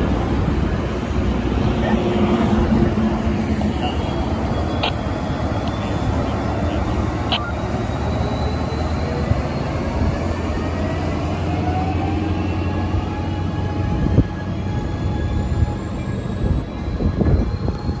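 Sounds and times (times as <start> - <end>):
diesel locomotive engine drone: 0.0 - 18.0
faint gliding wheel whines: 0.0 - 18.0.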